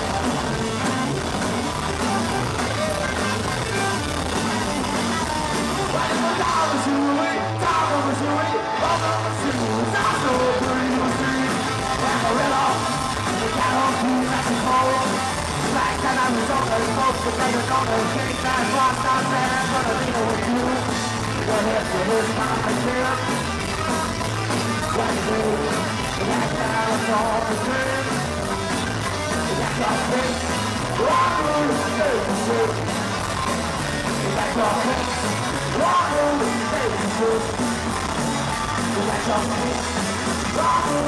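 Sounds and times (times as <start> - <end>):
drum kit steady beat: 0.0 - 7.0, 8.9 - 41.0
electric bass: 0.0 - 41.0
electric guitars: 0.0 - 41.0.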